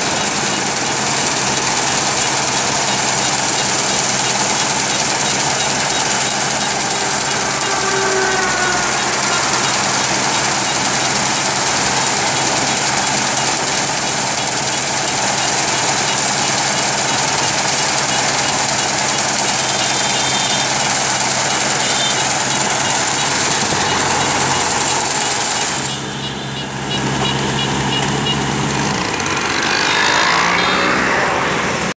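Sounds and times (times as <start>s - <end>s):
combine harvester running: 0.0s - 31.9s.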